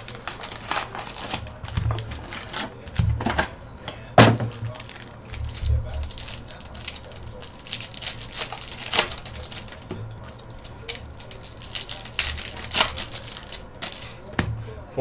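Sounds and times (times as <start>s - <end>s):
foil wrapper crinkling and tearing: 0.0s - 3.2s, 4.4s - 14.3s.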